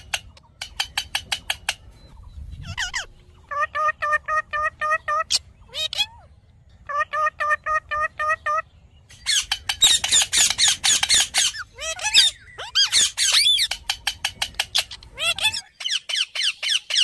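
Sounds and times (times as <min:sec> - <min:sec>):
parakeets squawking and screeching: 0:00.0 - 0:17.0.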